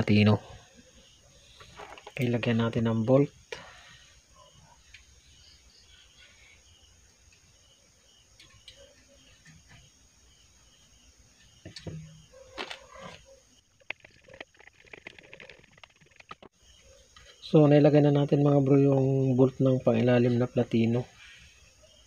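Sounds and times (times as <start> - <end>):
faint high chirping: 0.0 - 22.0.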